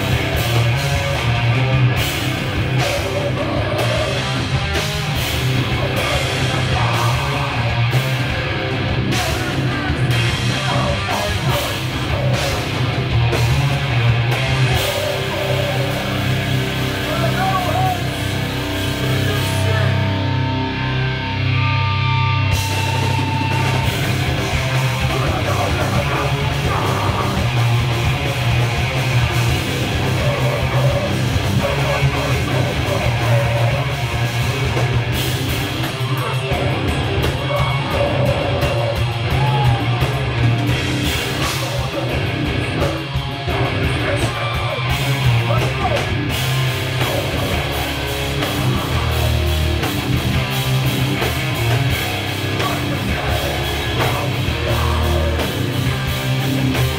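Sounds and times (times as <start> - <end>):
bass guitar: 0.0 - 56.9
distorted electric guitars: 0.0 - 56.9
drum kit: 0.0 - 56.9
rock vocals: 0.0 - 56.9.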